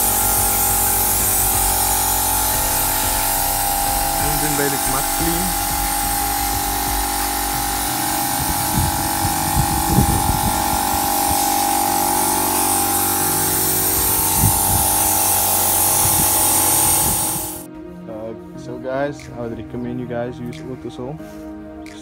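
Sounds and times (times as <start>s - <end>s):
air blow gun hissing: 0.0s - 17.7s.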